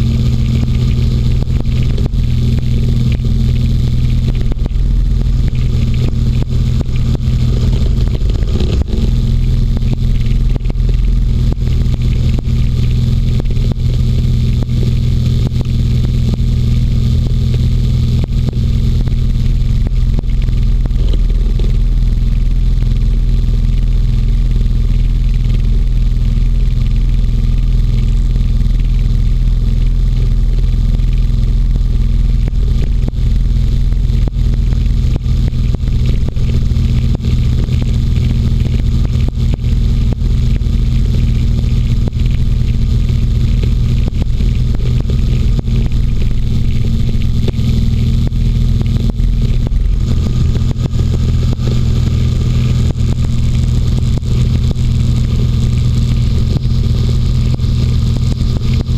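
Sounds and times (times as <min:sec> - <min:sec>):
hovercraft engine and propeller drone: 0:00.0 - 0:58.9.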